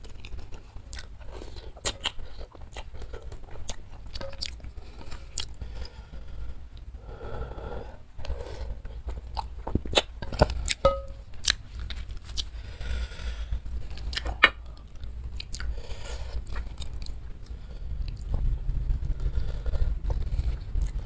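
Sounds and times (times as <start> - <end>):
person chewing noodles: 0.0 - 21.0.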